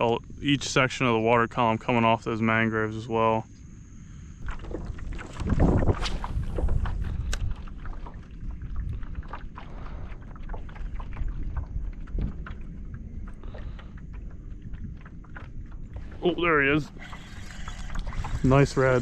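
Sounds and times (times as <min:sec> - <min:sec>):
wind buffeting microphone: 0:00.0 - 0:02.1, 0:03.5 - 0:19.0
water splashing against kayak hull: 0:03.4 - 0:19.0.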